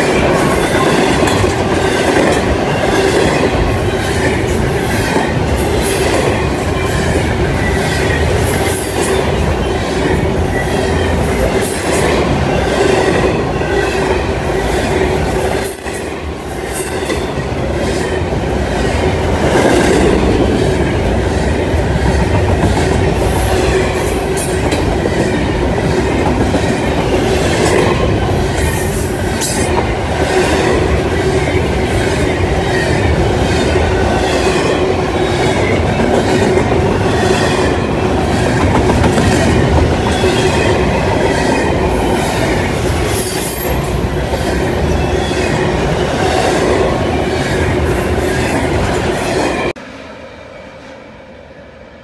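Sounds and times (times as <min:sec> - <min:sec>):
train wheels rumbling on rails: 0:00.0 - 0:49.8.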